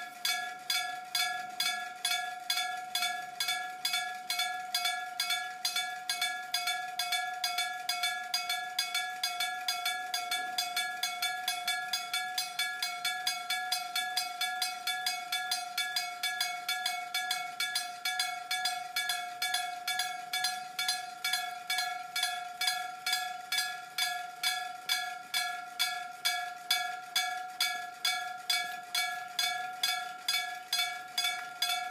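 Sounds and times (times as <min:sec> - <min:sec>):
level crossing warning bell: 0:00.0 - 0:31.9.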